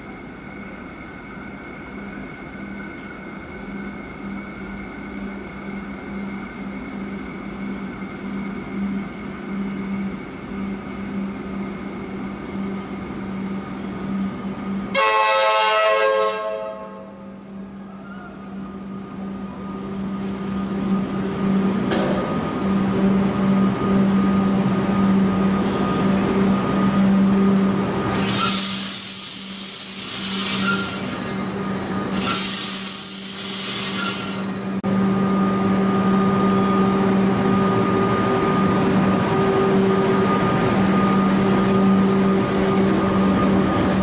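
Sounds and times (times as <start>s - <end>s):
electric train hum: 0.0s - 44.0s.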